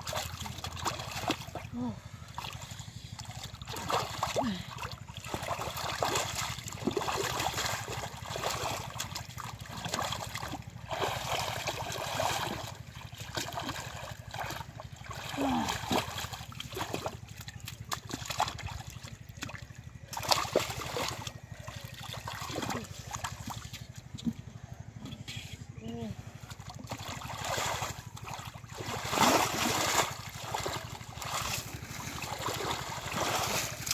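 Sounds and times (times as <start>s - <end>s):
hands splashing in muddy water: 0.0s - 24.3s, 26.4s - 33.9s.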